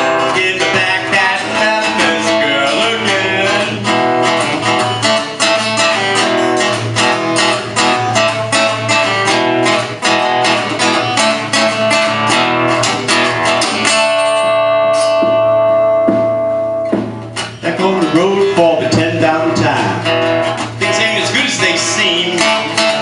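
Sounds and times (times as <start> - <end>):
guitar chord ringing: 0.0 - 18.6
guitar strumming: 0.0 - 23.0.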